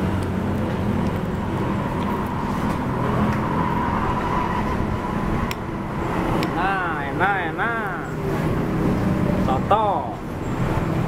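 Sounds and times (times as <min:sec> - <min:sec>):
highway traffic: 0:00.0 - 0:11.0.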